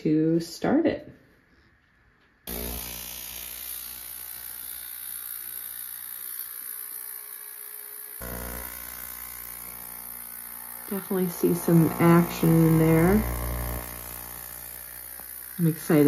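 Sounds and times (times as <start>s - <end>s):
ultrasonic cleaner buzzing and hissing: 2.5s - 16.0s.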